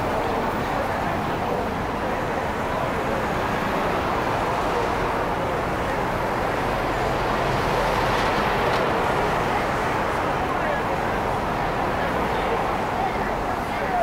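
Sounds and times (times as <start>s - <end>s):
traffic rumble and hiss: 0.0s - 14.0s.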